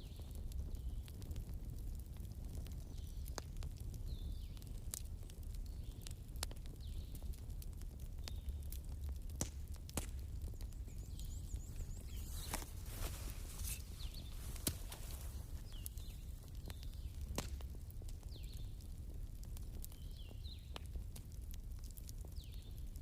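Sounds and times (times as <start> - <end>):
bonfire crackling: 0.0 - 23.0
low rumble of burning: 0.0 - 23.0.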